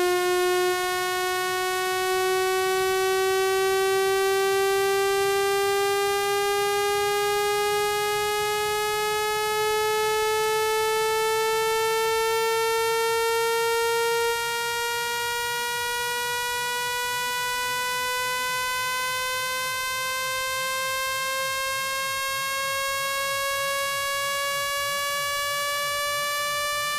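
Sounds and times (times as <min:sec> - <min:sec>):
buzzy synthetic rising tone: 0:00.0 - 0:26.9.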